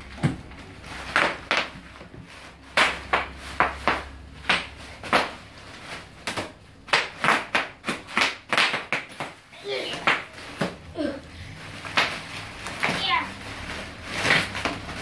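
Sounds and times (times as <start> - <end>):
bubble wrap popping: 0.0 - 15.0.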